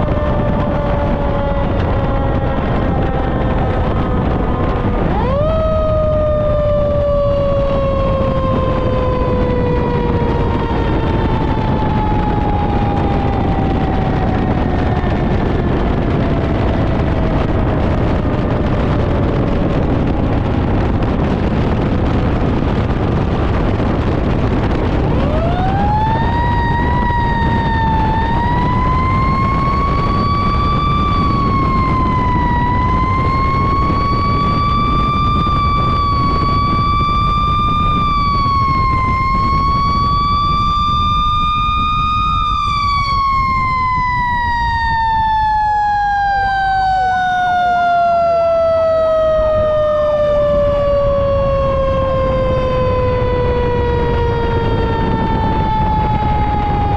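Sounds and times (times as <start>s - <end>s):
fire engine rumbling: 0.0s - 56.9s
siren wailing: 0.0s - 56.9s.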